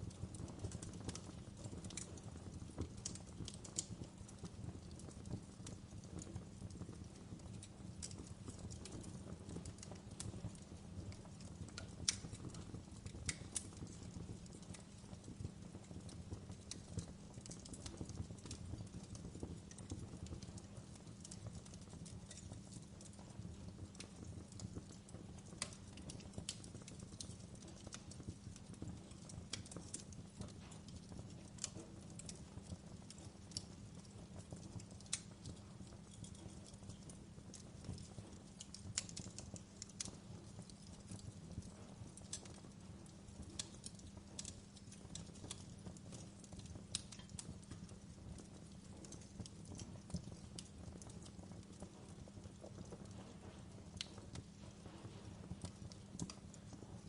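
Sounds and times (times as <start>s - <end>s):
low rumble of burning fire: 0.0s - 57.0s
wood fire crackling: 0.0s - 57.0s.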